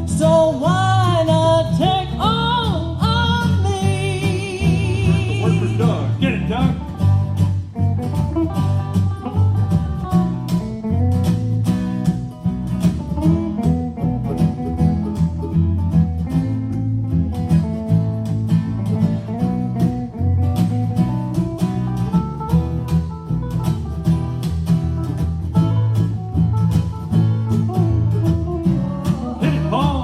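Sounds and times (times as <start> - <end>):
live band playing: 0.0 - 30.0
lead guitar solo: 2.1 - 30.0.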